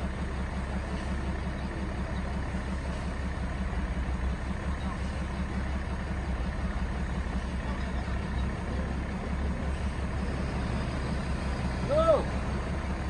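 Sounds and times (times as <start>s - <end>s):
diesel truck engines idling: 0.0s - 13.0s.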